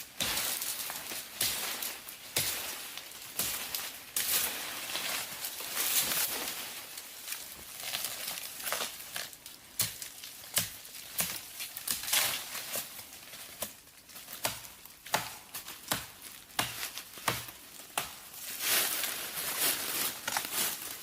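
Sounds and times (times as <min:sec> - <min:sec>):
crackling and rustling: 0:00.0 - 0:21.0.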